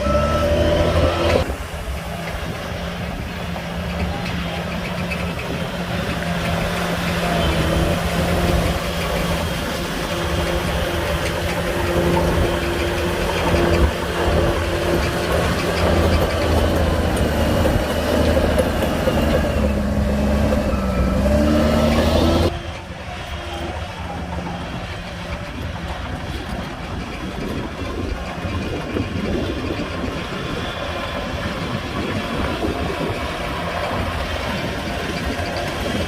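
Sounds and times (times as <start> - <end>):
heavy diesel engines running: 0.0 - 36.0.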